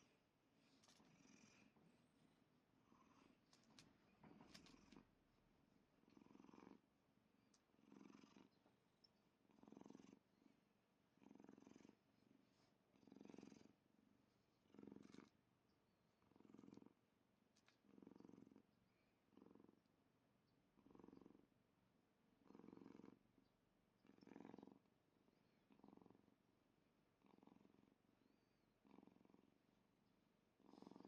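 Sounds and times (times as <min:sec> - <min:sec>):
cat purring: 0:00.0 - 0:31.0.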